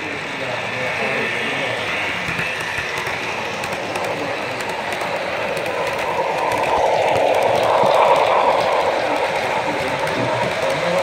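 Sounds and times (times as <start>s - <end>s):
model train wheels rumbling on rail: 0.0s - 11.0s
faint track clicking: 2.2s - 11.0s.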